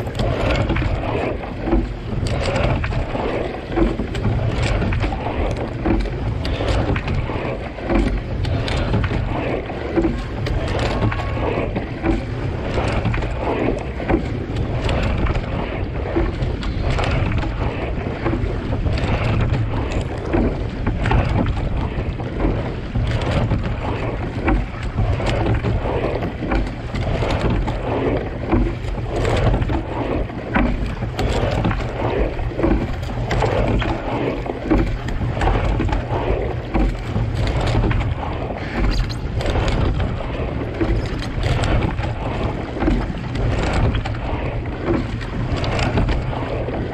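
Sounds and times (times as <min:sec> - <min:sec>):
oars splashing: 0:00.0 - 0:46.9
water rushing along a boat: 0:00.0 - 0:46.9
wind buffeting microphone: 0:00.0 - 0:46.9.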